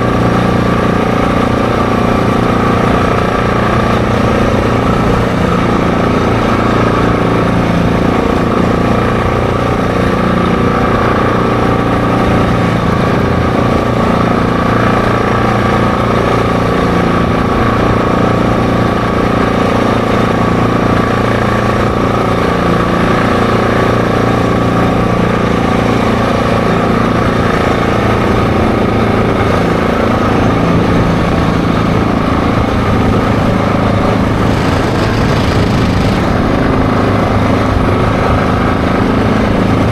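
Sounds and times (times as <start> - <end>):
atv engine running: 0.0 - 39.9
wind rumbling on microphone: 0.0 - 39.9.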